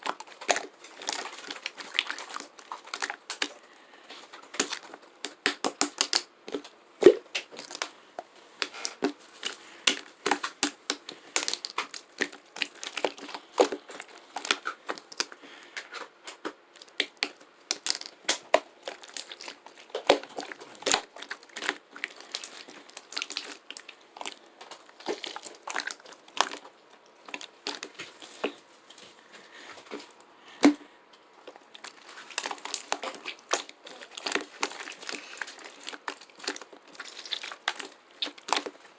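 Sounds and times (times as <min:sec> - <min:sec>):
crinkling and crackling: 0:00.0 - 0:38.9.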